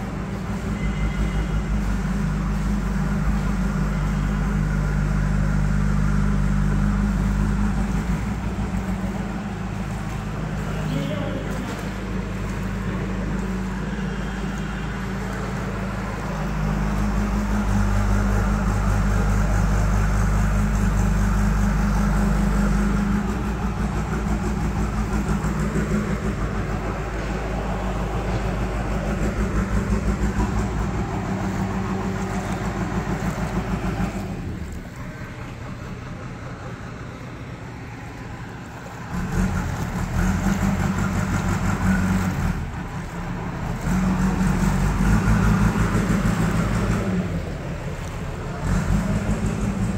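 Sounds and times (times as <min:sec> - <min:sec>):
low engine hum: 0:00.0 - 0:49.9.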